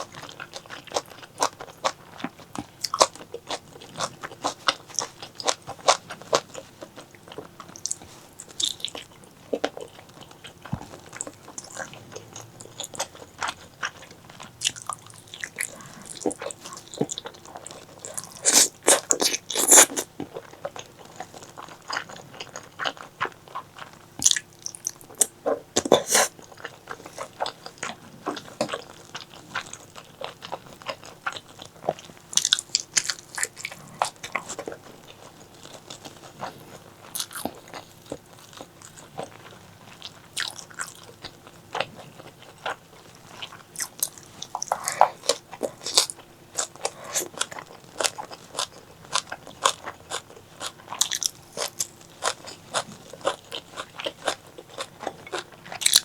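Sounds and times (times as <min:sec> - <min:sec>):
wet chewing and mouth clicks: 0:00.0 - 0:56.0.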